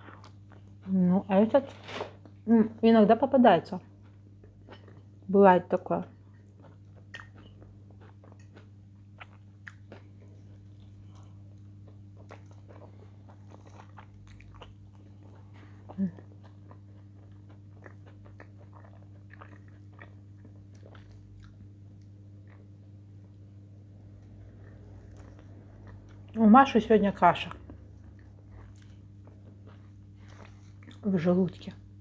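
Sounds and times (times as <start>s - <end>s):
person chewing food: 0.0s - 1.0s, 4.0s - 5.3s, 6.2s - 26.4s, 27.4s - 31.0s
steady low hum: 0.0s - 32.0s.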